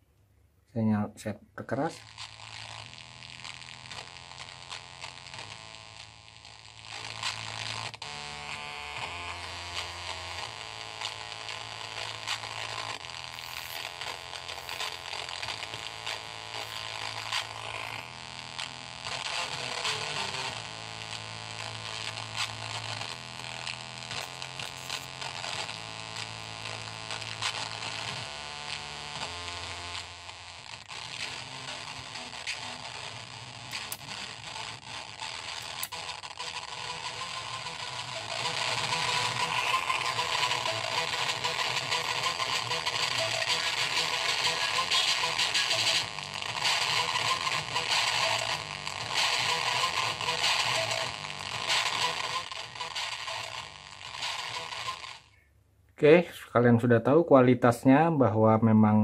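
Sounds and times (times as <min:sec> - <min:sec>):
distorted music through loudspeaker: 0:01.8 - 0:55.1.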